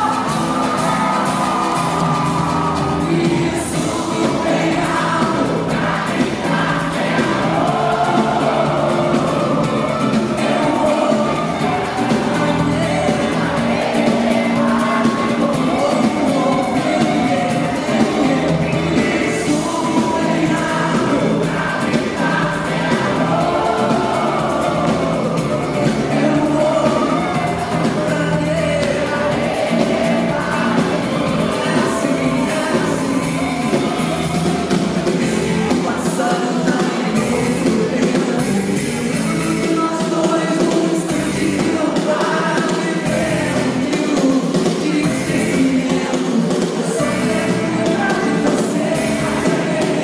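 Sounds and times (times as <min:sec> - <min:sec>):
audience singing along: 0:00.0 - 0:50.0
live band music: 0:00.0 - 0:50.0.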